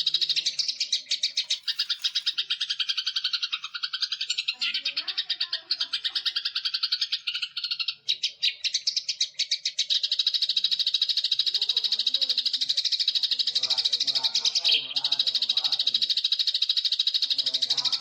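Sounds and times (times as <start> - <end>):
songbird chattering trill: 0.0 - 18.0.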